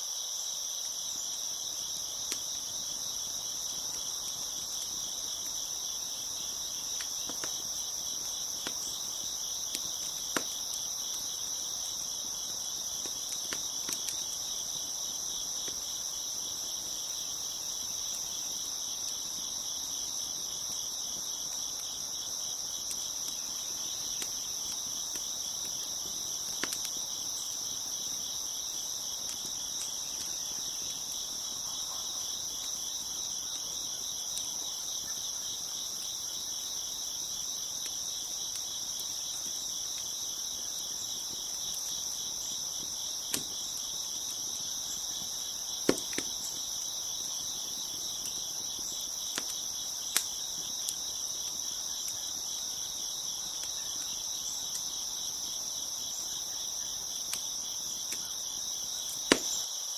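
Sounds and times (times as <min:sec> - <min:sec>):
crickets chirping: 0:00.0 - 0:59.9
wood fire crackling: 0:00.3 - 0:59.6.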